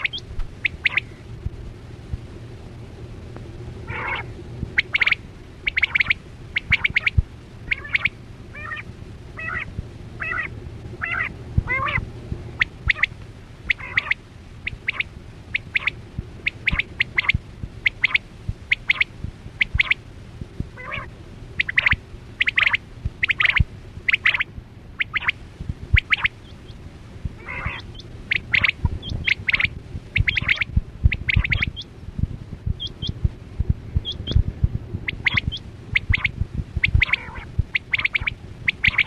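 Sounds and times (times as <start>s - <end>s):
quail calling: 0.0s - 1.2s, 3.9s - 12.0s, 12.6s - 20.0s, 20.8s - 26.8s, 27.4s - 31.9s, 32.8s - 33.2s, 34.0s - 34.4s, 35.1s - 39.0s.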